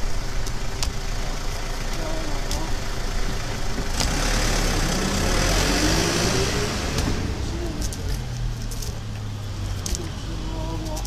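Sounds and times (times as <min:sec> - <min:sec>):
low traffic rumble: 0:00.0 - 0:11.0
passing vehicle rush: 0:00.0 - 0:11.0.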